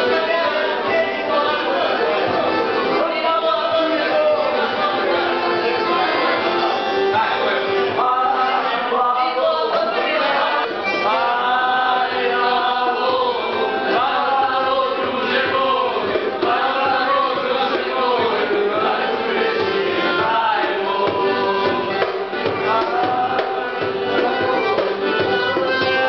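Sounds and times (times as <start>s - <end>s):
men singing together: 0.0s - 26.0s.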